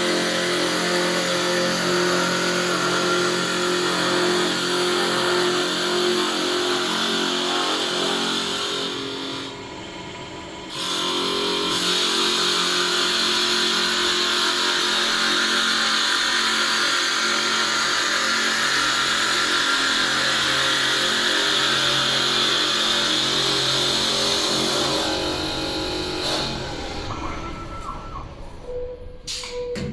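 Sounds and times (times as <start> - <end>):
wood lathe running: 0.0 - 10.0, 10.6 - 27.8.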